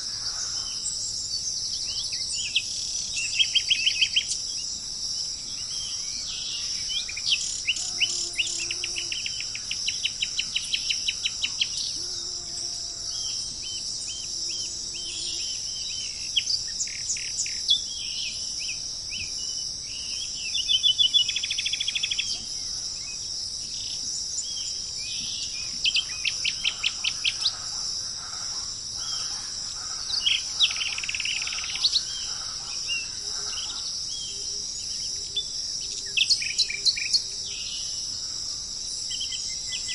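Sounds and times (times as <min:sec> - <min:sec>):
high-pitched insect drone: 0:00.0 - 0:39.9
songbirds chirping and trilling: 0:00.0 - 0:39.9.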